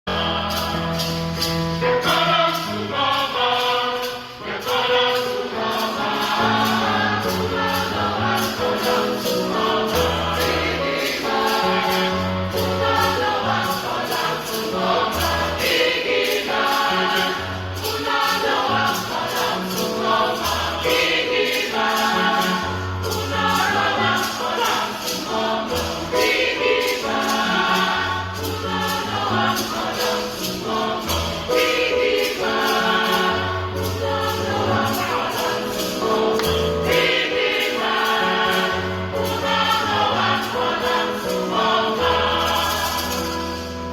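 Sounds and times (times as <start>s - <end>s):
gospel choir singing: 0.0s - 43.9s
tambourine: 0.2s - 43.9s.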